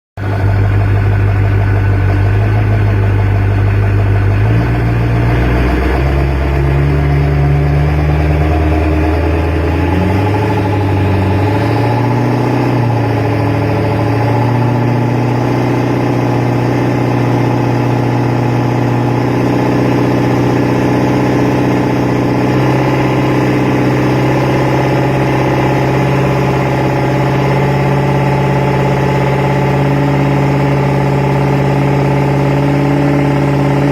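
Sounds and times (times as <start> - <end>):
diesel truck engine revving: 0.2 - 33.9.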